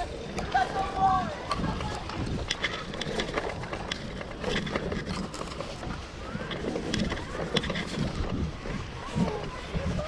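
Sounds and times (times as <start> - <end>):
bicycle rumble: 0.0 - 10.0
faint voices: 0.0 - 10.0.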